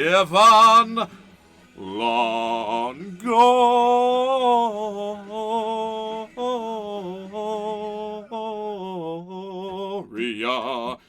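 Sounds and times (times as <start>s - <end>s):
man singing long notes: 0.0s - 1.2s, 1.8s - 11.0s.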